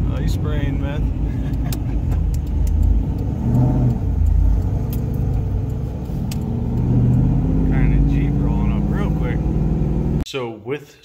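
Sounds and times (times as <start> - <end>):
car engine rumbling and revving: 0.0 - 10.2.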